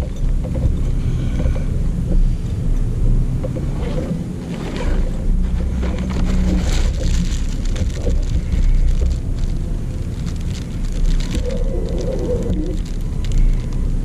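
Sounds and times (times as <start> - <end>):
clicks and rustles: 0.0 - 14.0
wind buffeting microphone: 0.0 - 14.0.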